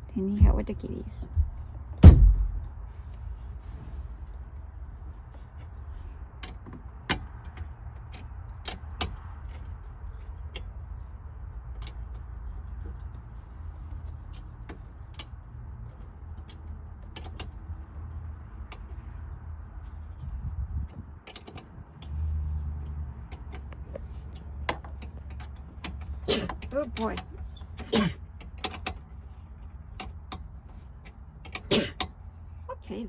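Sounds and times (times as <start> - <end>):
low steady rumble: 0.0 - 33.0
sharp clicks and light knocks: 5.2 - 20.3, 20.9 - 32.3.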